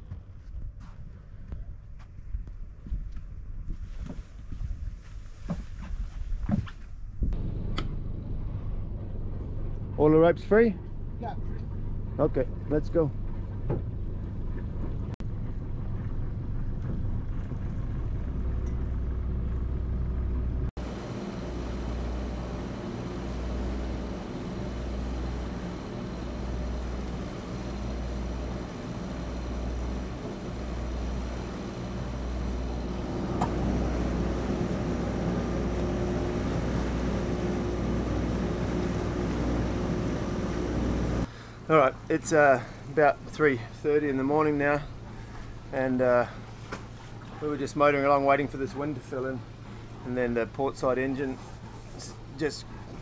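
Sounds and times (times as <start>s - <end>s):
boat engines droning: 7.4s - 19.8s, 20.8s - 53.0s.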